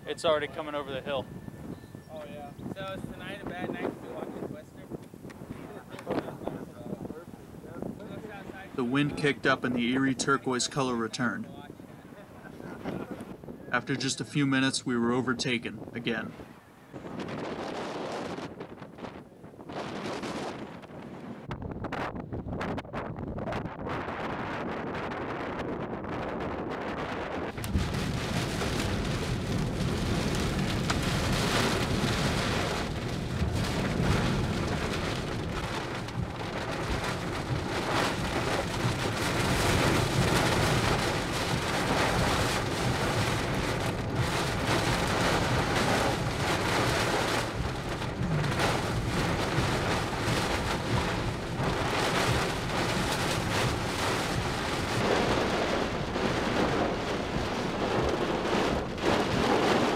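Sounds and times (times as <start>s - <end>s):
heavy wind-driven rain: 0.0s - 59.9s.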